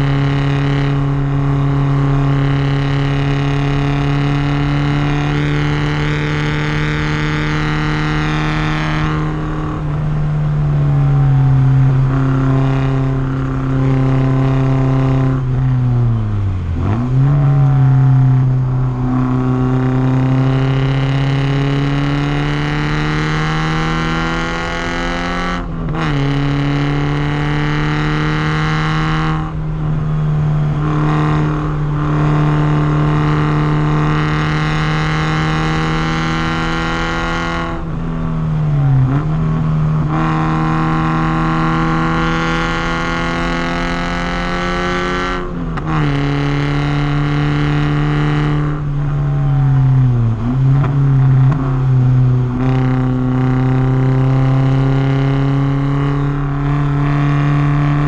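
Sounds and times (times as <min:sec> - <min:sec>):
car engine at full throttle: 0:00.0 - 0:58.0.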